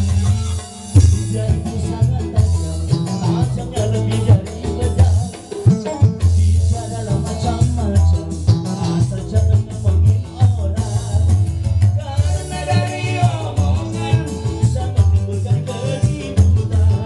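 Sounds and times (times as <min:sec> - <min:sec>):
live band playing upbeat song: 0:00.0 - 0:17.0
person singing into microphone: 0:00.0 - 0:17.0.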